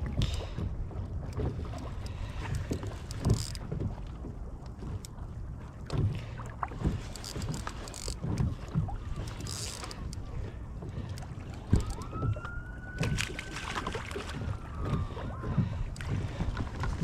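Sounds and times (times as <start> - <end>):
water and gear knocking on hull: 0.0 - 17.0.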